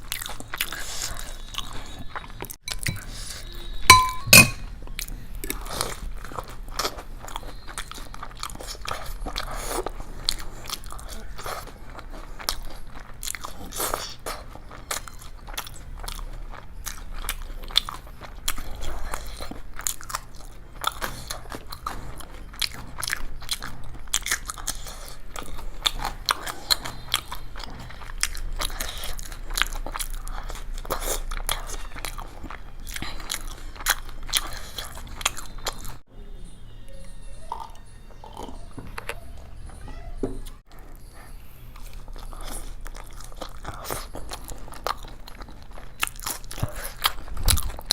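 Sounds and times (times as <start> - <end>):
crunching and chewing crisp snack: 0.0 - 3.7, 4.7 - 36.1, 40.5 - 47.9.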